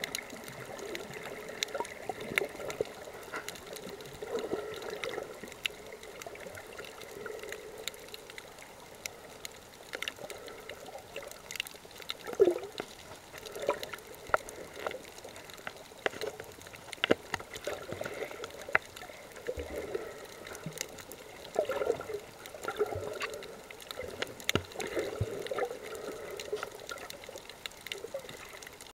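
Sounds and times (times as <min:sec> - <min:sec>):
sharp underwater clicks: 0:00.0 - 0:28.9
underwater gurgling wash: 0:00.0 - 0:28.9.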